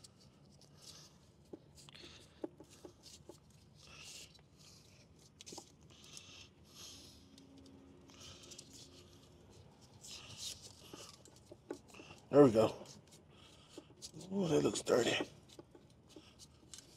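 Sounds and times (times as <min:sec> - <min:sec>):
scraping and rustling of hoses: 0:00.0 - 0:16.9.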